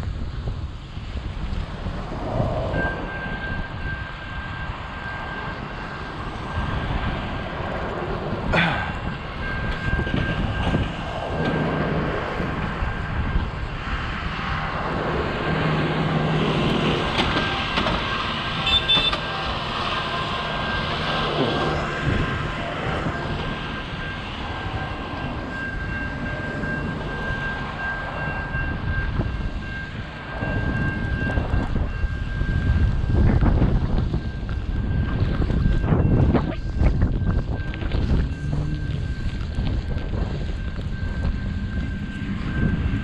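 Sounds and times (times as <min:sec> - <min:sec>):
rushing wind and road noise: 0:00.0 - 0:43.0
vehicle-like rumble: 0:00.0 - 0:43.0.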